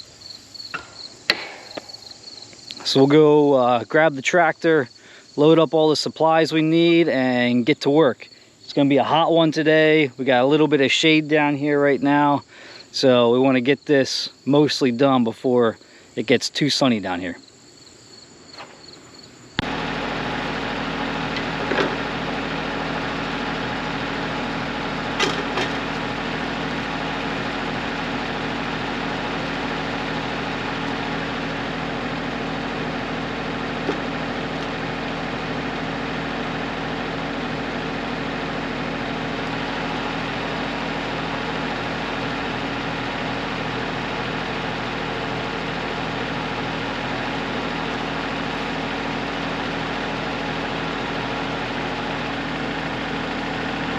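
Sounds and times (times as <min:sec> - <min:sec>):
tractor diesel engine running: 0:00.0 - 0:15.8, 0:19.5 - 0:53.9.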